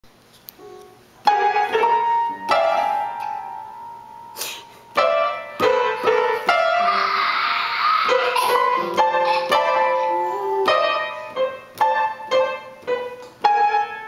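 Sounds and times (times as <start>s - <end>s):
piano note clusters banged: 0.6s - 14.0s.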